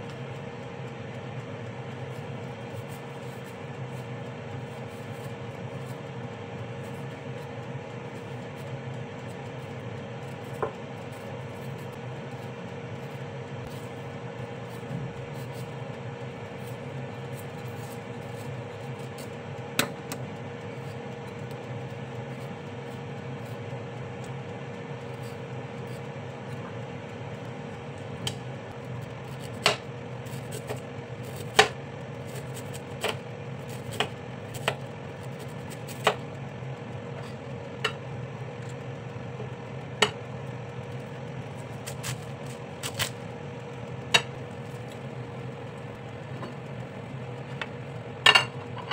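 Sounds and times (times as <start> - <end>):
convection oven humming: 0.0 - 48.9.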